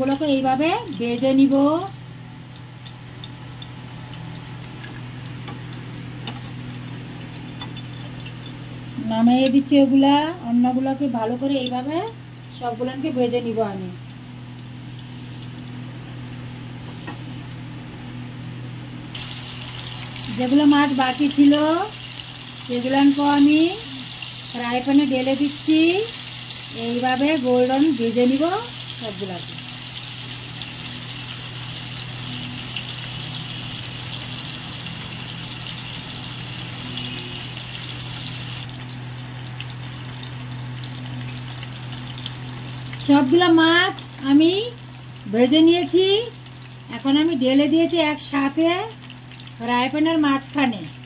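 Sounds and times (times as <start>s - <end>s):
fish sizzling in hot oil: 0.0s - 9.4s, 11.0s - 18.2s, 19.1s - 50.8s
constant low hum: 0.0s - 51.0s.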